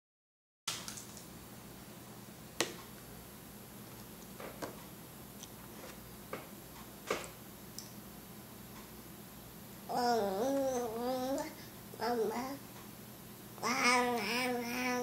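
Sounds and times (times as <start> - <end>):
faint low hum: 0.7 - 15.0.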